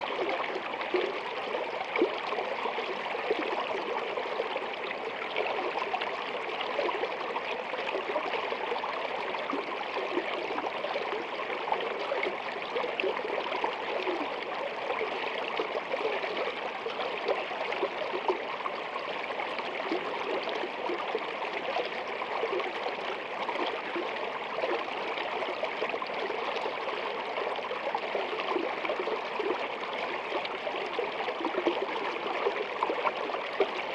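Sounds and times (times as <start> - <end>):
stream flowing under ice: 0.0 - 33.9.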